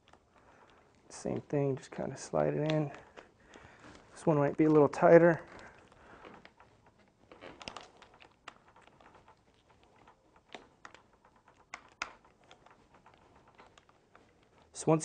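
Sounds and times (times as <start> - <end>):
rubber grip rubbing: 0.0 - 15.0.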